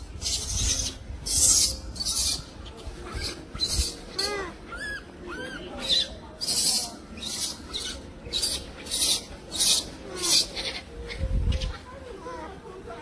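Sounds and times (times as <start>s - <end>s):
baby monkey shrieking: 0.2s - 11.8s.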